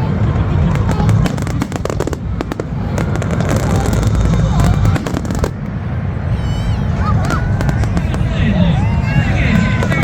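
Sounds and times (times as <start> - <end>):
fireworks bursts rumbling: 0.0 - 10.0
fireworks crackling: 0.1 - 6.0, 7.1 - 10.0.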